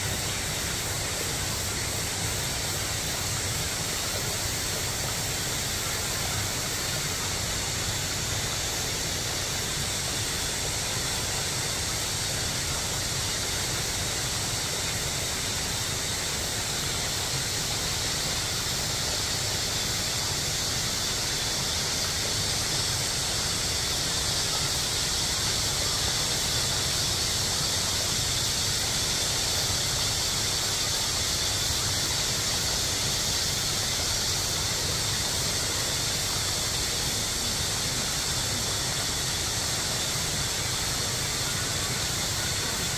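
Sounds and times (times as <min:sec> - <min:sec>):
mountain stream rushing: 0:00.0 - 0:42.9.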